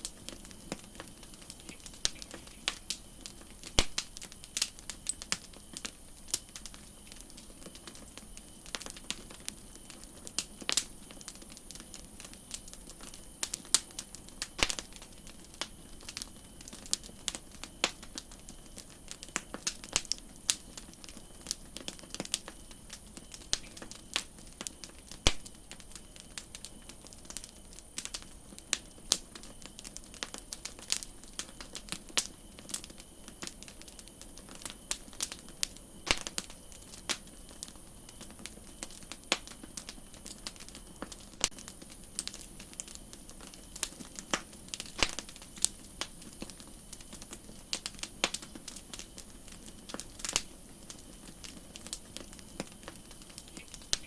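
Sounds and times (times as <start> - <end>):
wood campfire crackling: 0.0 - 54.0.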